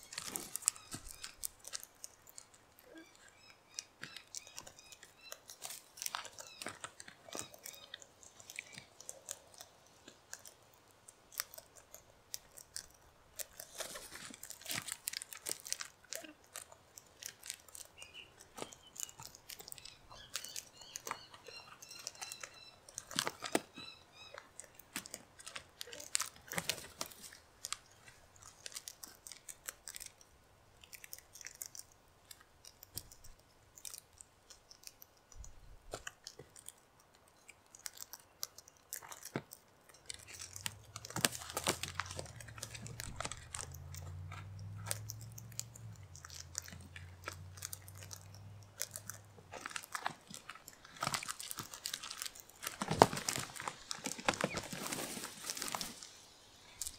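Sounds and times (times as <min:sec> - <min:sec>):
cockatoos cracking seed: 0:00.0 - 0:35.1, 0:37.7 - 0:56.9.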